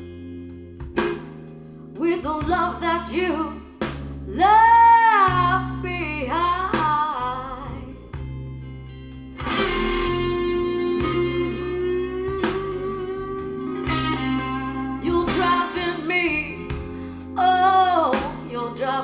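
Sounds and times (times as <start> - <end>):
guitar: 0.0 - 19.0
person singing blues: 2.0 - 8.4, 9.5 - 19.0.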